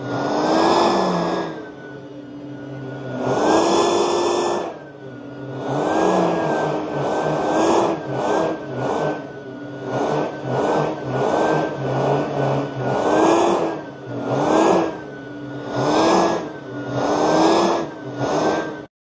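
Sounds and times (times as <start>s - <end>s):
vacuum suction noise: 0.0s - 9.3s, 10.0s - 18.9s
vacuum motor hum: 0.0s - 18.9s.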